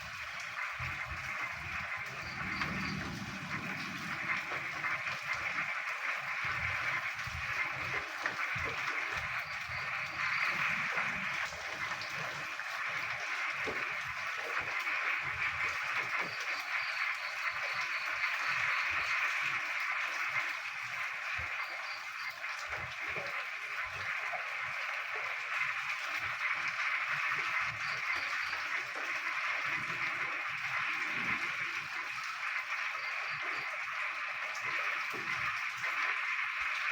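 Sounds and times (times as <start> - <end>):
frogs croaking in chorus: 0.0 - 36.8
rain: 0.0 - 36.9.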